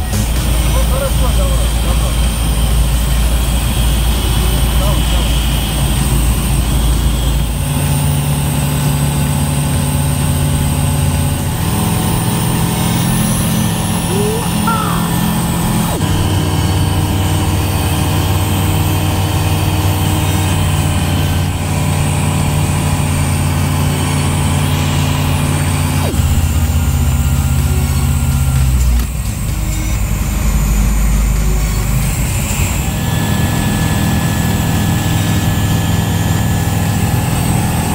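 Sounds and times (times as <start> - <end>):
propeller aircraft engine droning: 0.0 - 37.9.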